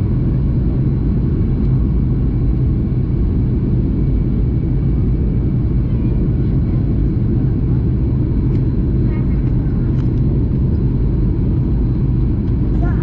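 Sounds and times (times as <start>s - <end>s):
jet engines droning: 0.0s - 13.0s.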